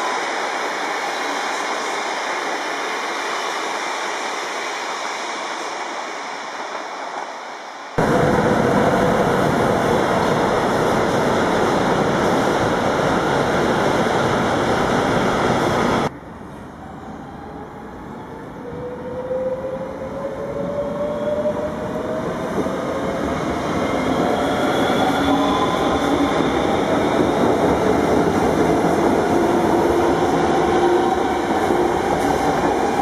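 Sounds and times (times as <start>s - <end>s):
electric train rushing past: 0.0s - 33.0s.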